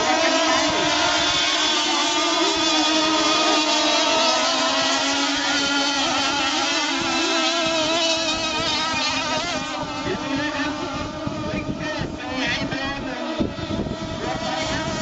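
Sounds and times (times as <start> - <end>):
rc boat motors whining: 0.0 - 15.0.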